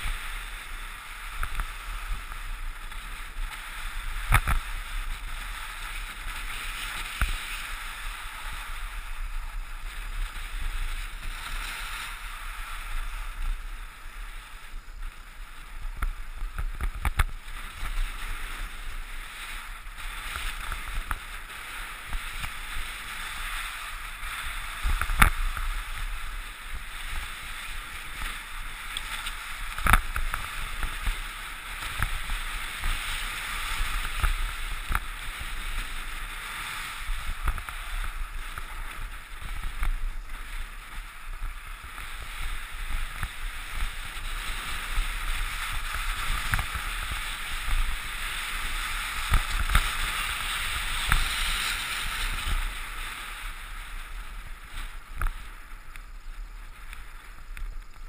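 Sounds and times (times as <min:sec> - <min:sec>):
skis swishing on snow: 0:00.0 - 0:58.0.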